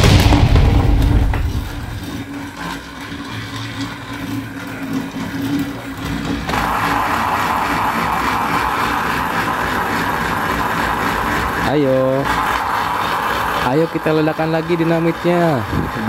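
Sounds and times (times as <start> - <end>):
toy train motor whining: 2.0 - 16.0.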